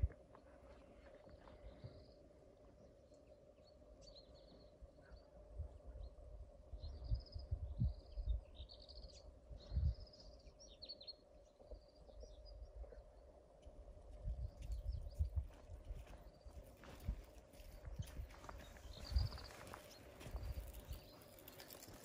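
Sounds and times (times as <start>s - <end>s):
faint hum: 0.0s - 20.6s
songbirds chirping and twittering: 0.0s - 22.0s.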